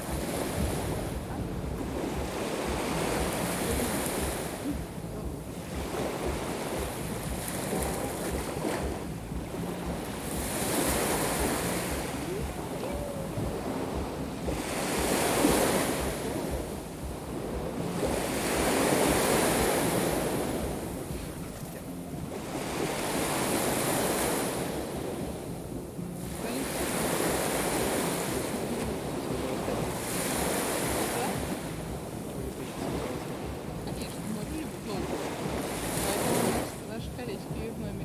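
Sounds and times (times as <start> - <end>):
waves breaking on shore: 0.0 - 38.0
wind buffeting microphone: 0.0 - 38.0.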